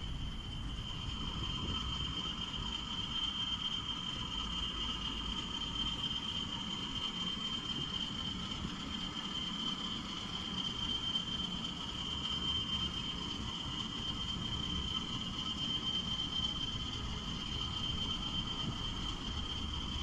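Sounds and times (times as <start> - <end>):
cricket chirring: 0.0 - 20.0.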